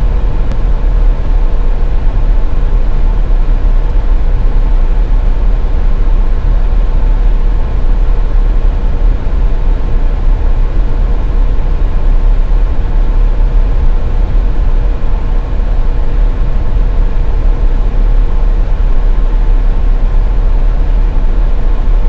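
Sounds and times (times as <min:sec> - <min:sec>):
faint hum: 0:00.0 - 0:22.0
road and engine rumble: 0:00.0 - 0:22.0.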